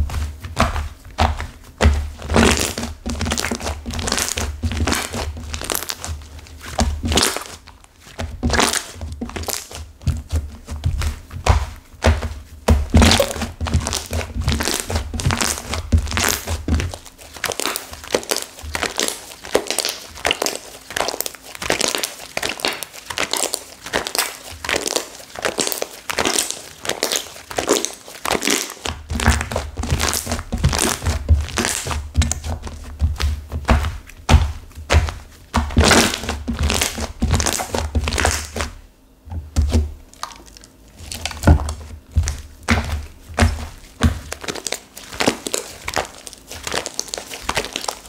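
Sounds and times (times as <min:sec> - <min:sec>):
slime squeezed by hand crunching: 0:00.6 - 0:10.3, 0:10.9 - 0:38.8, 0:39.5 - 0:48.0.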